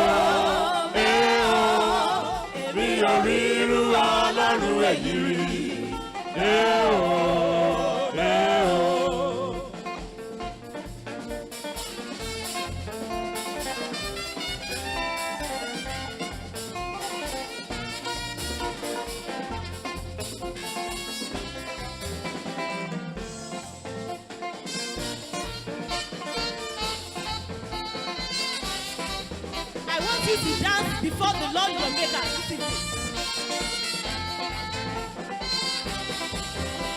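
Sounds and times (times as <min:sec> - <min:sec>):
drum kit beat: 0:00.0 - 0:36.9
gospel band music: 0:00.0 - 0:36.9.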